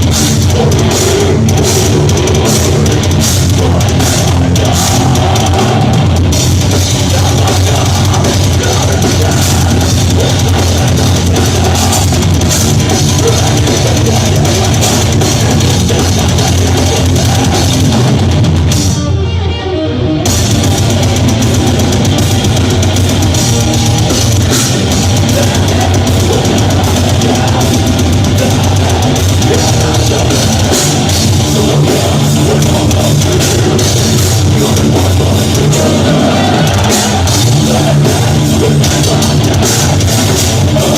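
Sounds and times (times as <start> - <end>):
fast drum kit: 0.0 - 19.2, 20.2 - 40.9
distorted guitars: 0.0 - 40.9.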